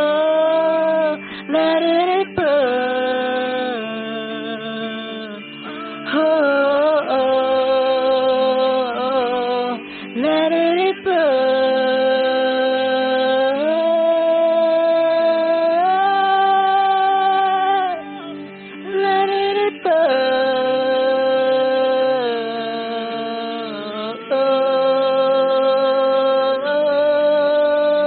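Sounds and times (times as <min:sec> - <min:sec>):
person singing wordless vowels: 0:00.0 - 0:28.0
sustained accompaniment: 0:00.0 - 0:28.0.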